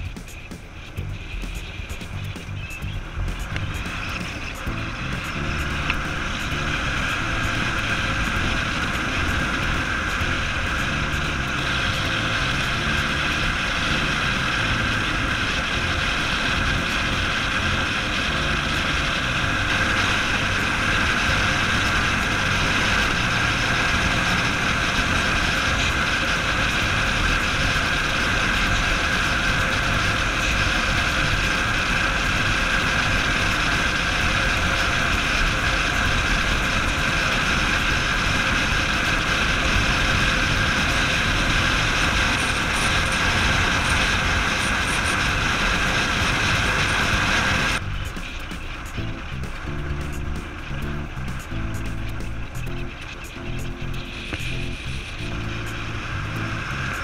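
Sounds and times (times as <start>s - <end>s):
motorcycle engine cruising: 0.0s - 57.0s
wind rush on microphone: 0.0s - 57.0s.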